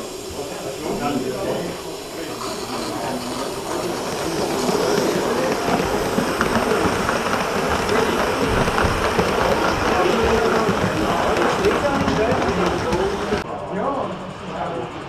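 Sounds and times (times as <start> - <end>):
model train wheels clattering: 0.3 - 13.4.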